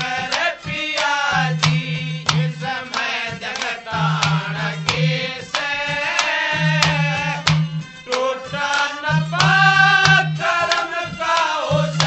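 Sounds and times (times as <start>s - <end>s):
drum strokes: 0.0s - 12.0s
folk singing: 0.0s - 12.0s.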